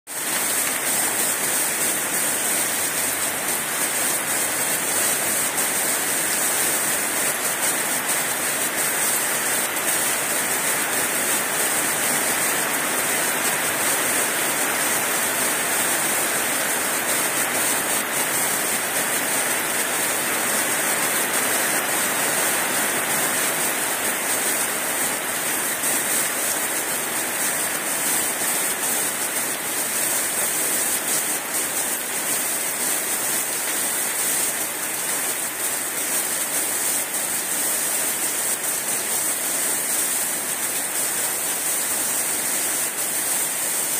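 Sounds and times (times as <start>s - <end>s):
heavy rain on leaves: 0.1s - 43.9s.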